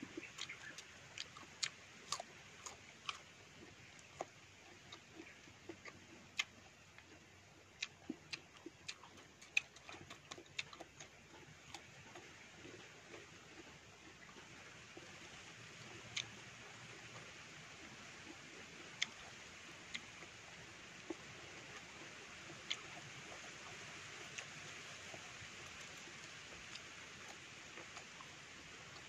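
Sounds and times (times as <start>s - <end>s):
person chewing fruit: 0.0s - 29.0s.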